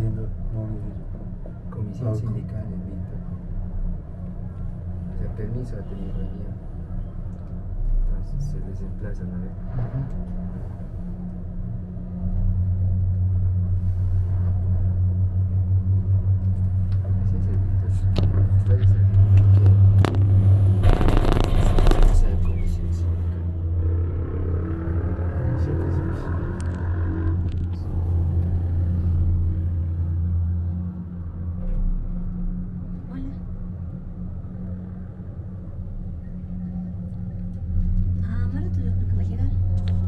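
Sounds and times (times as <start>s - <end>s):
cable car rumbling: 0.0s - 40.0s.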